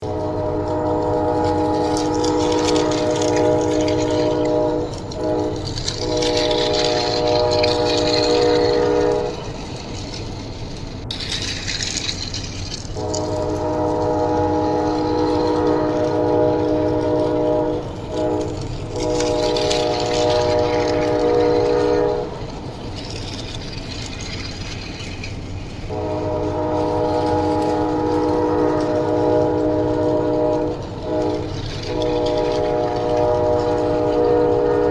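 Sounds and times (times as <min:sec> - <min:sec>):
train horn blasts: 0:00.0 - 0:10.5, 0:11.3 - 0:24.4, 0:25.9 - 0:34.9
steady rumble: 0:00.0 - 0:34.9.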